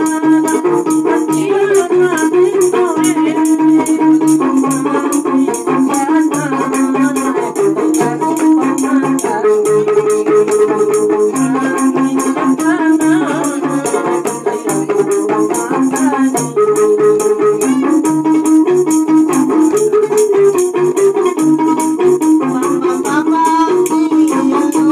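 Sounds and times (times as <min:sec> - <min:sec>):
hand drums beating: 0:00.0 - 0:24.9
lute melody: 0:00.0 - 0:24.9.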